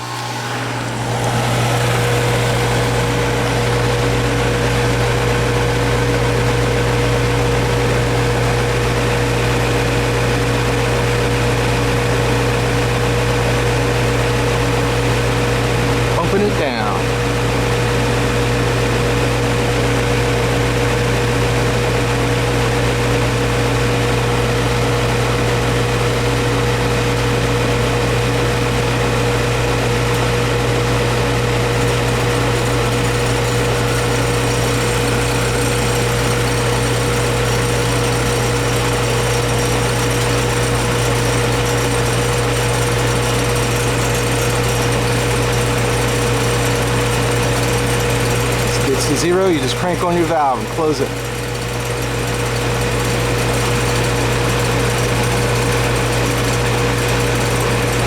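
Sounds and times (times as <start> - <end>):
heat pump compressor and fan humming: 0.0 - 58.0.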